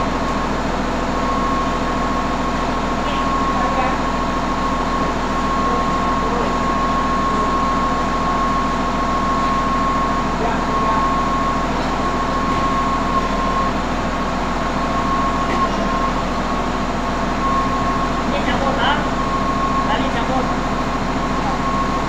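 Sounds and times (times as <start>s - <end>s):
heavy machinery droning: 0.0s - 22.0s.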